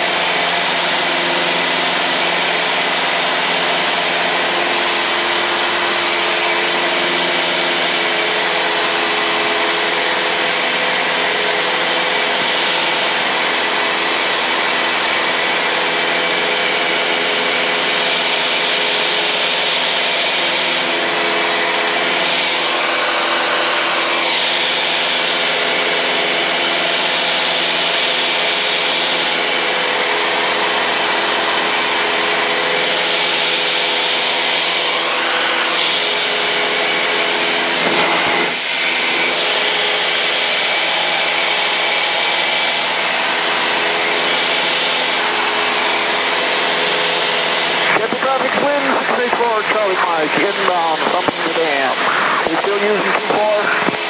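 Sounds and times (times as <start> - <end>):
airplane engine and propeller drone: 0.0 - 54.0.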